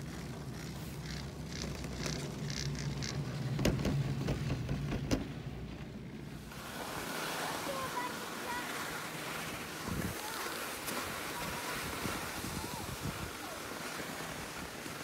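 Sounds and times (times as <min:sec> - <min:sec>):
chairlift humming: 0:00.0 - 0:15.0.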